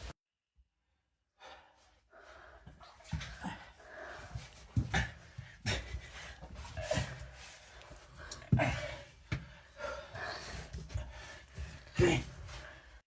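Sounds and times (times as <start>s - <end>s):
heavy panting breathing: 1.4s - 13.0s.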